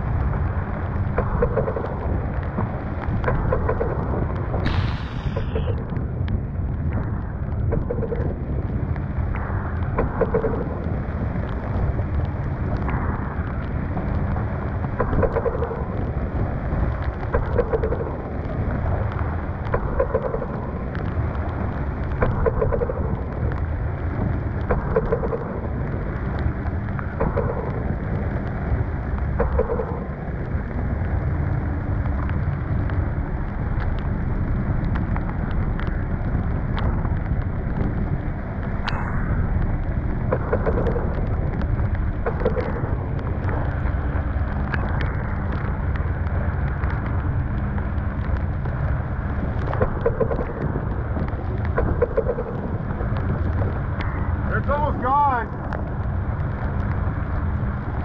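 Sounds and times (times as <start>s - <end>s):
storm wind and rain: 0.0s - 58.0s.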